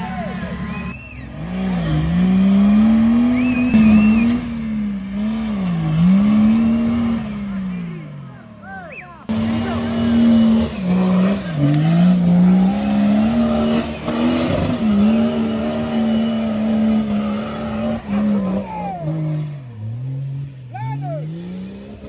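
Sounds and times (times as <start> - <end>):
engine revving hard: 0.4 - 8.4, 9.3 - 22.0.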